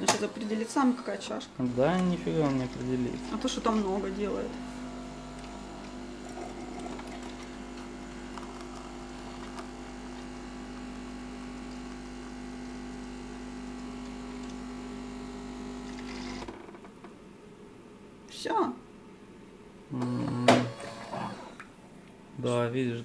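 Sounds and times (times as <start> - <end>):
coffee machine humming: 0.0 - 17.7, 19.9 - 22.0.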